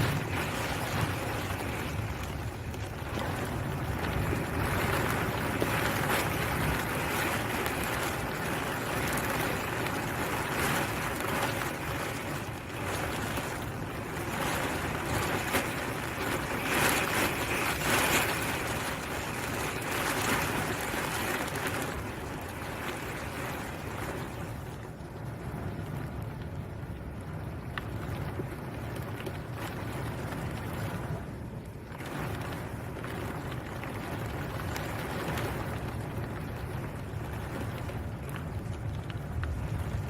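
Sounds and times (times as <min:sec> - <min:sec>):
storm wind on microphone: 0:00.0 - 0:40.0.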